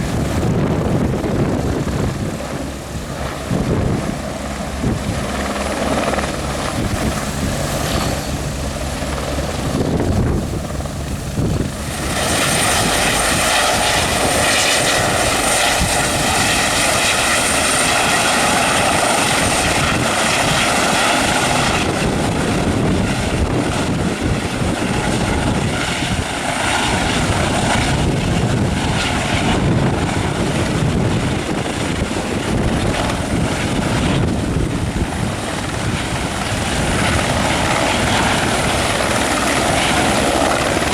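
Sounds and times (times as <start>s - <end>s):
helicopter turbine whine: 0.0s - 40.9s.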